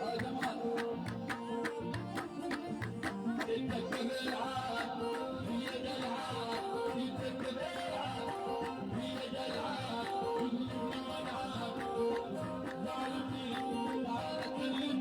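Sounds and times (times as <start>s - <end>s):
rhythmic accompaniment: 0.0s - 15.0s.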